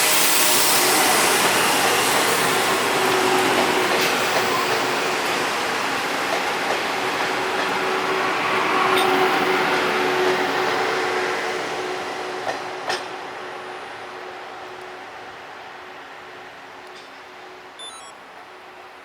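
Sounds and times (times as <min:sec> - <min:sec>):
train wheels rushing on rails: 0:00.0 - 0:17.7.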